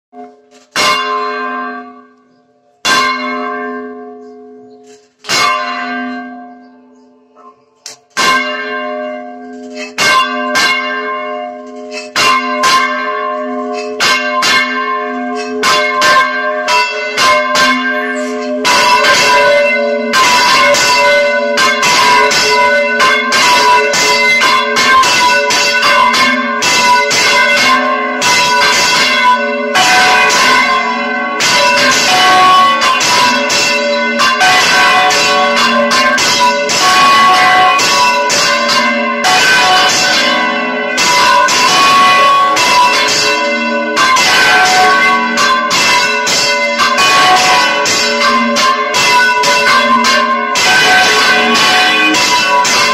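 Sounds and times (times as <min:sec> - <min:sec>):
church bells pealing: 0:00.1 - 0:52.9.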